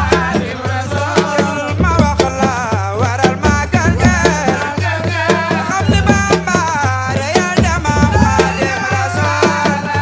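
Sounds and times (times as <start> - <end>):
steady drum beat: 0.0 - 10.0
person singing: 1.1 - 10.0.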